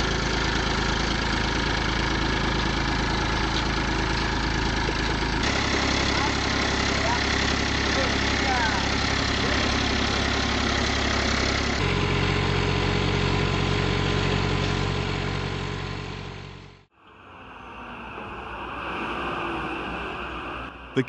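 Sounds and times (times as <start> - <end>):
diesel engine running: 0.0 - 16.9
quieter engine running: 0.0 - 16.9
outdoor noise: 0.0 - 21.0.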